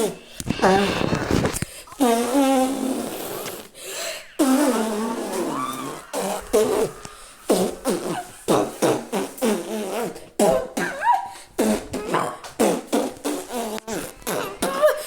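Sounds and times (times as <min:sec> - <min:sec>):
fart sounds: 0:00.0 - 0:03.8, 0:04.4 - 0:15.0.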